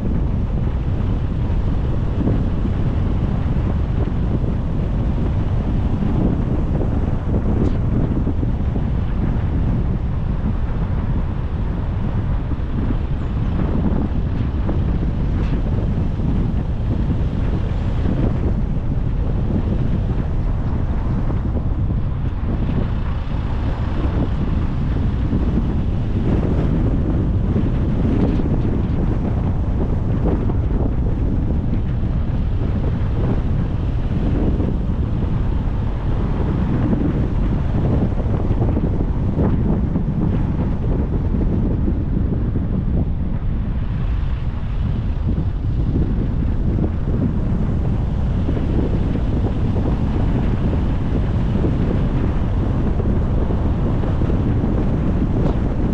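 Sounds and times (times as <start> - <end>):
wind buffeting microphone: 0.0 - 55.9
wind noise from moving car: 0.0 - 55.9.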